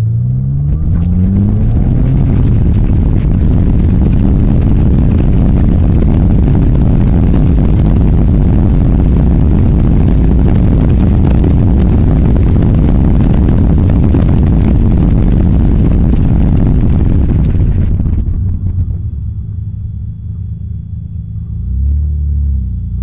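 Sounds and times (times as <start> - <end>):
wind buffeting microphone: 0.4 - 19.6.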